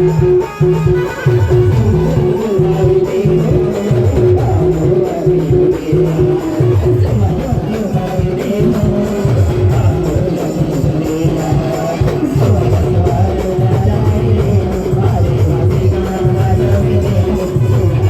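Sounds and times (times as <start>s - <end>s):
band playing dance tune: 0.0s - 18.0s.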